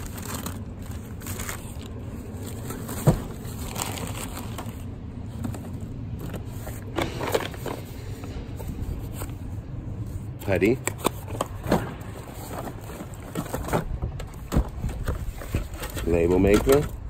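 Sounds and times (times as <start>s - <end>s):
steady low rumble: 0.0s - 16.1s
cardboard handling noise: 0.0s - 17.0s.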